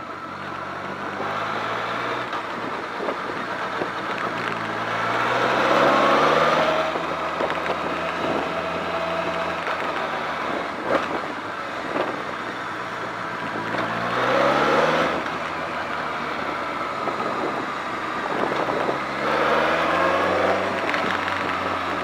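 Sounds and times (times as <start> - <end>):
motorcycle engine accelerating: 0.0 - 22.0
wind and road noise: 0.0 - 22.0.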